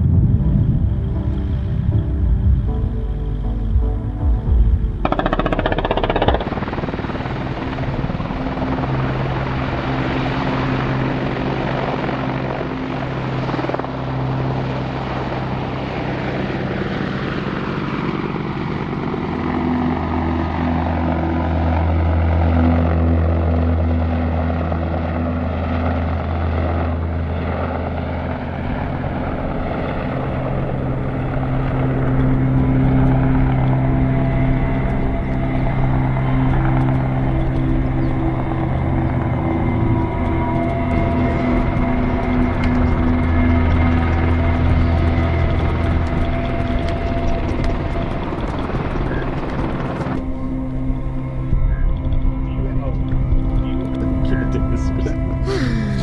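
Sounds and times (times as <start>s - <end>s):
deep hum: 0.0s - 11.7s, 20.2s - 56.0s
helicopter running: 0.0s - 56.0s.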